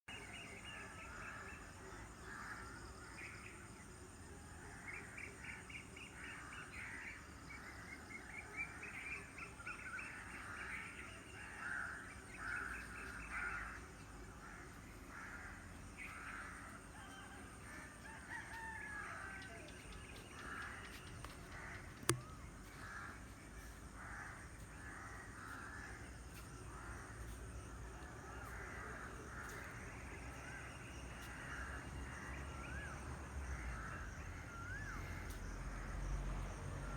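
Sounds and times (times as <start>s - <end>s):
steady outdoor background: 0.0s - 36.9s.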